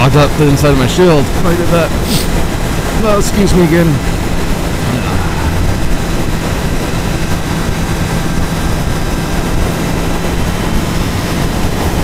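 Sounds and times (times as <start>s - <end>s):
motorcycle engine cruising: 0.0s - 12.0s
wind rush on microphone: 0.3s - 12.0s.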